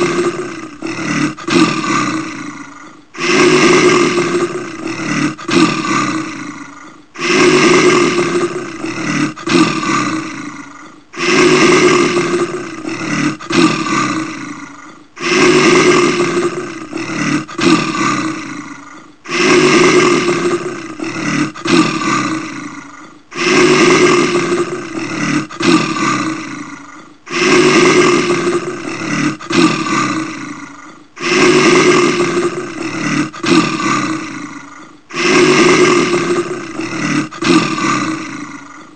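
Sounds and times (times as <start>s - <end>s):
bear roaring: 0.0s - 38.9s.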